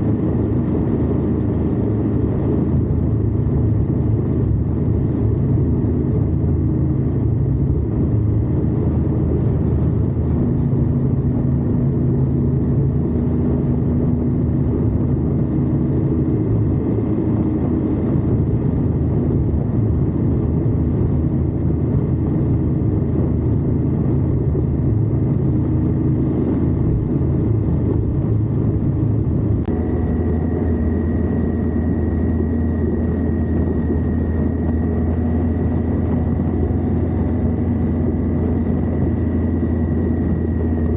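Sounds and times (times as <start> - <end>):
faint high whine: 0.0 - 40.9
motorcycle engine running: 0.0 - 40.9
wind rush: 0.0 - 40.9.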